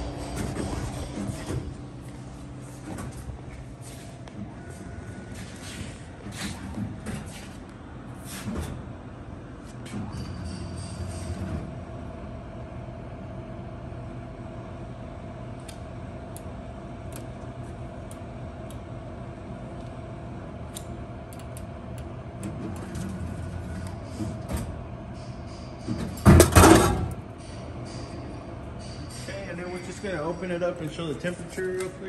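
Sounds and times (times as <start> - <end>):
vending machine humming: 0.0 - 32.0.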